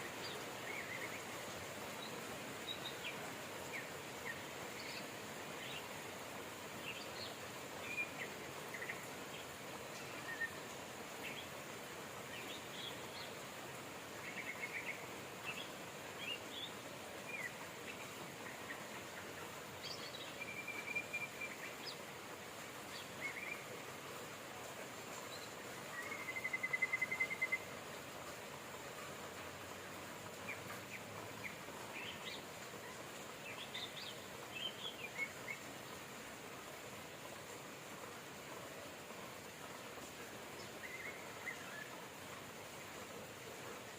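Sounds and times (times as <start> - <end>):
songbirds chirping: 0.0 - 43.9
steady rain hiss: 0.0 - 43.9.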